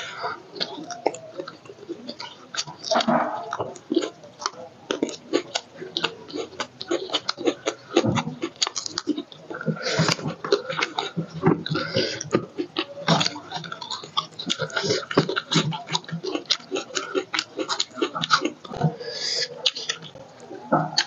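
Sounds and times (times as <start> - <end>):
chewing and lip-smacking: 0.0 - 21.0.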